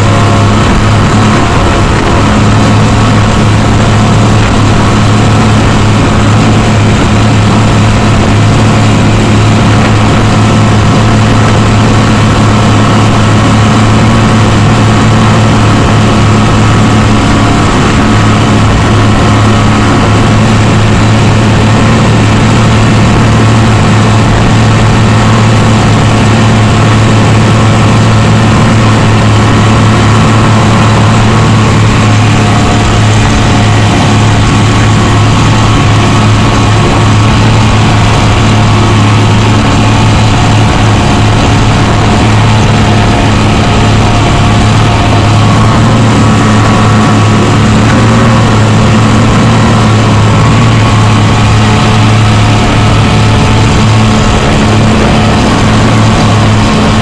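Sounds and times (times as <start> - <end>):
boat engine drone: 0.0 - 57.0
water rushing along hull: 0.0 - 57.0.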